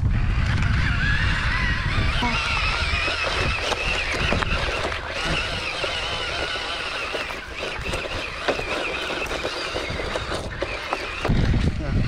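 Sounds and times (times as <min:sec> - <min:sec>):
model truck motors whining: 0:00.0 - 0:12.0
steady rumble: 0:00.0 - 0:12.0.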